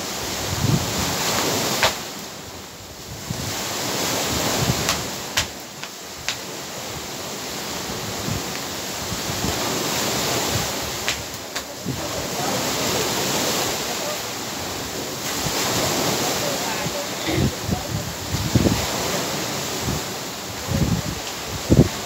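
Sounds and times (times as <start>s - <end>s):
surf breaking on rocky shore: 0.0s - 22.0s
wind buffeting microphone: 0.0s - 22.0s.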